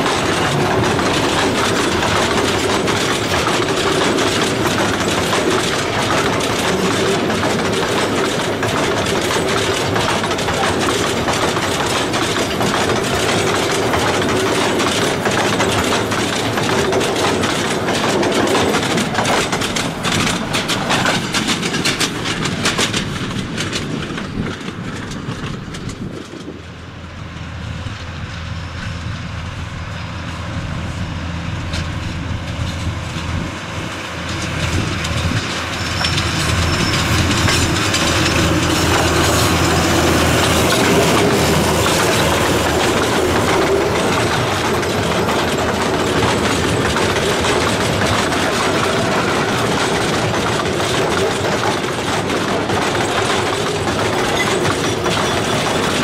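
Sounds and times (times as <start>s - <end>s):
diesel locomotive running: 0.0s - 56.0s
train wagons rattling on rails: 0.0s - 56.0s.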